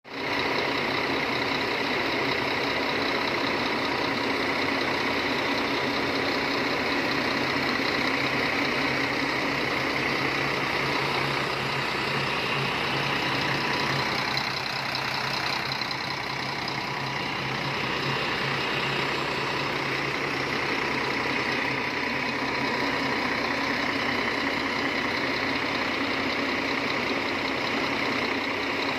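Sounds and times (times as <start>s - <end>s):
diesel engine idling: 0.1s - 28.9s.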